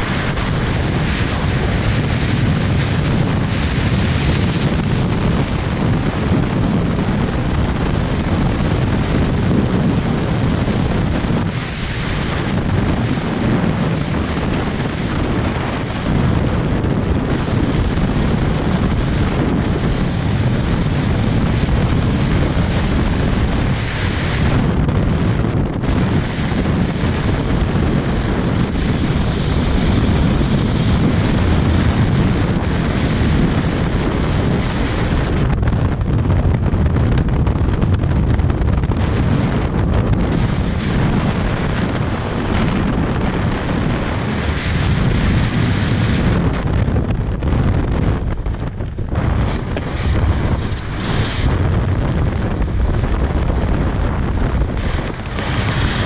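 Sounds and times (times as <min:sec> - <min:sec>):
wind roaring over microphone: 0:00.0 - 0:56.0.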